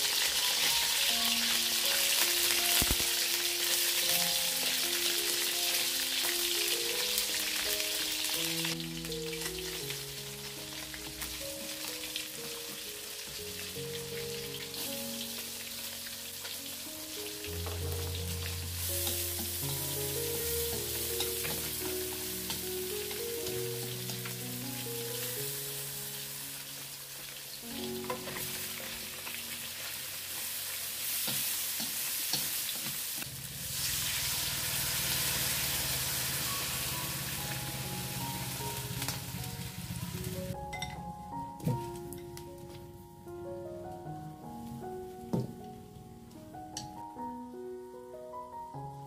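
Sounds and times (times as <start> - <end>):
background music: 0.0 - 31.4, 35.0 - 49.0
food sizzling in hot oil: 0.0 - 40.6.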